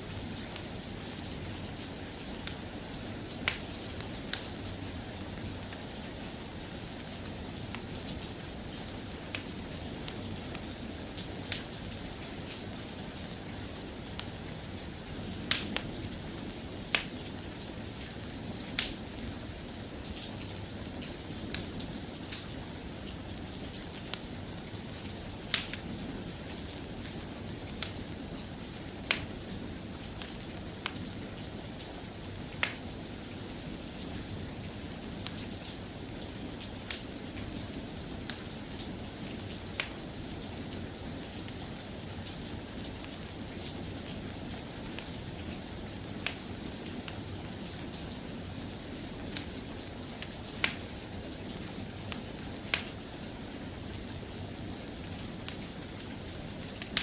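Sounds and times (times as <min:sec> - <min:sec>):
fireplace crackling and popping: 0:00.0 - 0:57.0
soft rain: 0:00.0 - 0:57.0.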